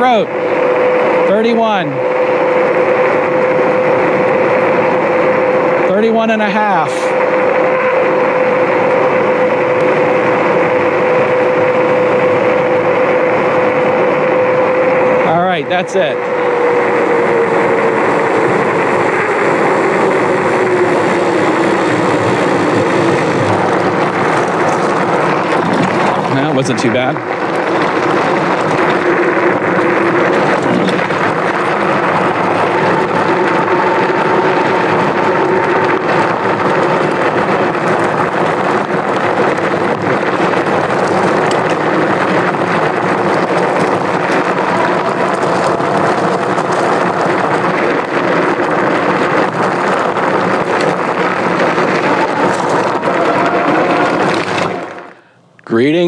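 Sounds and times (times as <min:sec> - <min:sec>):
electric bike motor whine: 0:00.0 - 0:56.0
tyres rolling on gravel: 0:00.0 - 0:56.0
wind rushing over microphone: 0:00.0 - 0:56.0.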